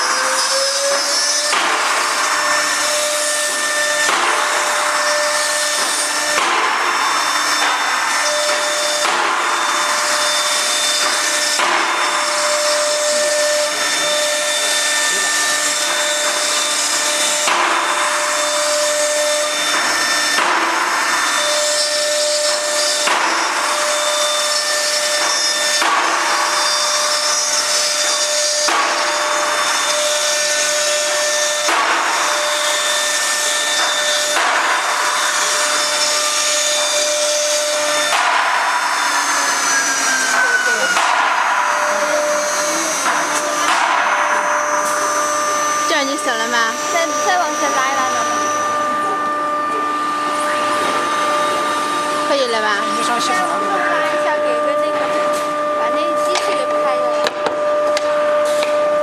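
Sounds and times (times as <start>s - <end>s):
rough wood cutting noise: 0.0s - 59.0s
router spindle whine: 0.0s - 59.0s.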